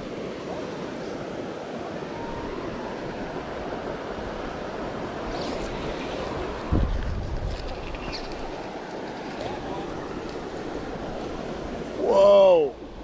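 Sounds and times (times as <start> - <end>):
river water rushing over riffles: 0.0 - 13.0.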